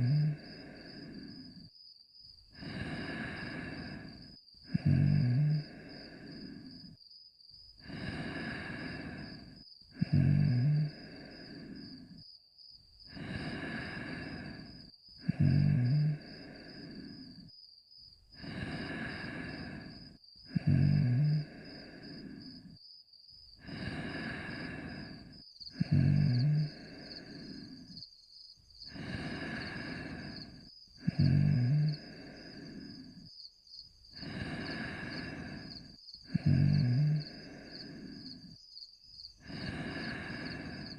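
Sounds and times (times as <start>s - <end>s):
cartoon dog snoring: 0.0s - 1.7s, 2.6s - 7.0s, 7.8s - 12.2s, 13.1s - 17.5s, 18.4s - 22.8s, 23.6s - 28.0s, 28.9s - 33.3s, 34.1s - 38.6s, 39.4s - 40.9s.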